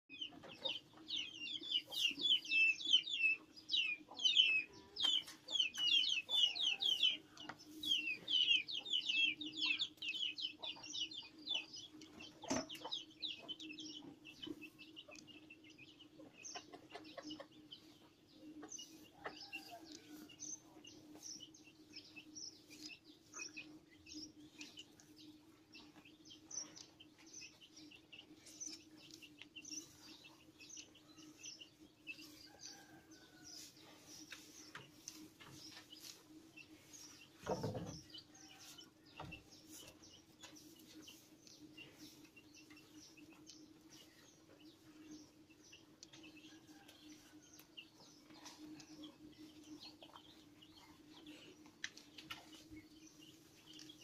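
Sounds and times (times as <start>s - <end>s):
small birds chirping: 0.1s - 54.0s.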